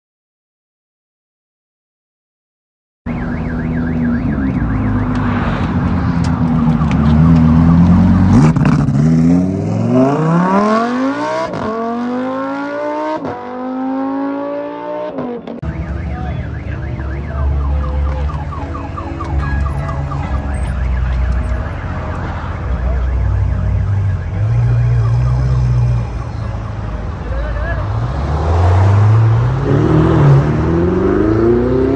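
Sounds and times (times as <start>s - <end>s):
car engines accelerating: 3.1s - 31.9s
car engine revving unevenly: 4.1s - 31.9s.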